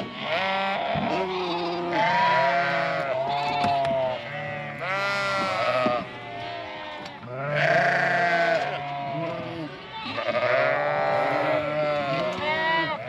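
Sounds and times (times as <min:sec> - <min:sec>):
sheep and lambs bleating: 0:00.0 - 0:13.0.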